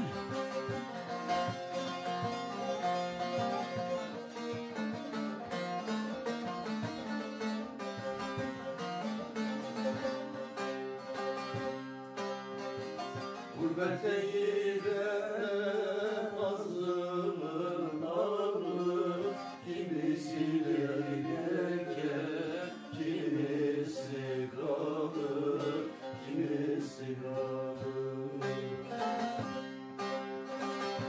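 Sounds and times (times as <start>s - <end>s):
man singing folk song: 0.0s - 7.6s, 12.6s - 31.0s
plucked long-necked lutes: 0.0s - 31.0s.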